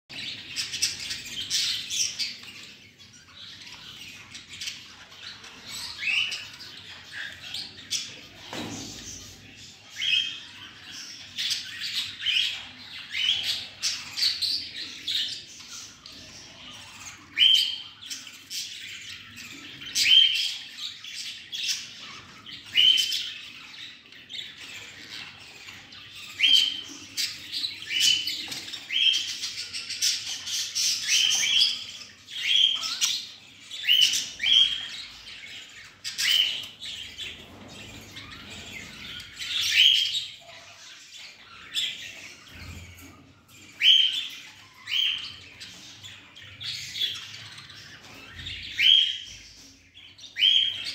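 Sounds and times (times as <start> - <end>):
budgerigars chirping: 0.1 - 50.9.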